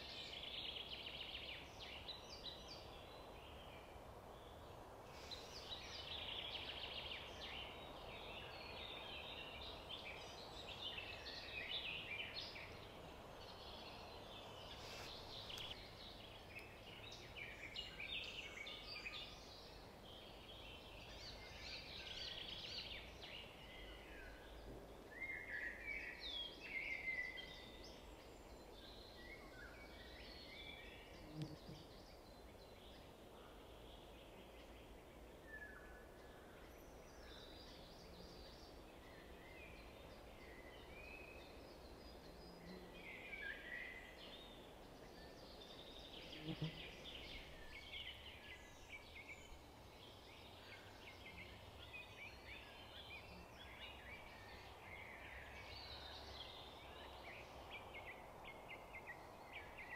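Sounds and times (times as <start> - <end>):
low background hiss: 0.0 - 59.9
small birds chirping: 5.2 - 59.9.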